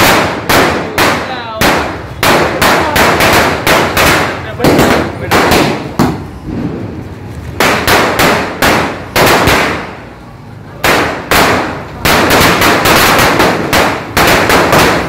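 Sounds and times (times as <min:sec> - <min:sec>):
firecracker string bangs: 0:00.0 - 0:10.0, 0:10.8 - 0:15.0.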